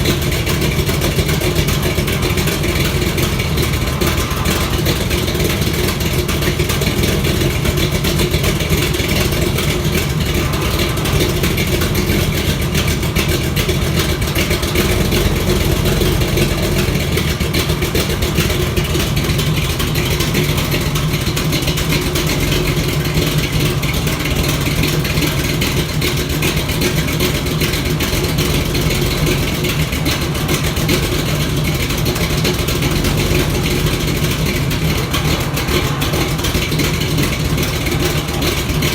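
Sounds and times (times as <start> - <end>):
car engine running with exhaust leak: 0.0 - 38.9.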